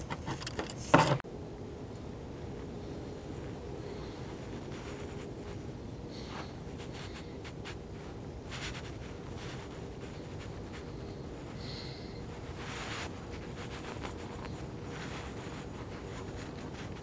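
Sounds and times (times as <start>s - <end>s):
low background noise: 0.0s - 17.0s
handling scratches and rustles: 3.3s - 17.0s.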